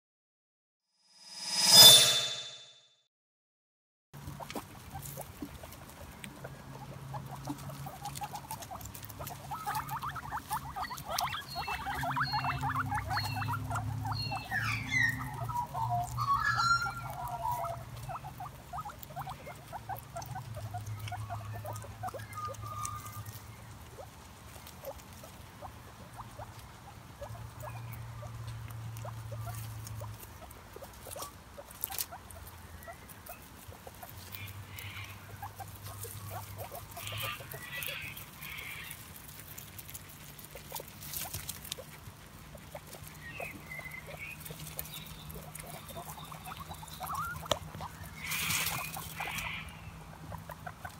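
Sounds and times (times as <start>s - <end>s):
guinea pig squeaks: 4.2s - 50.9s
guinea pigs chewing grass: 4.2s - 50.9s
rustling through dry leaves: 4.2s - 50.9s.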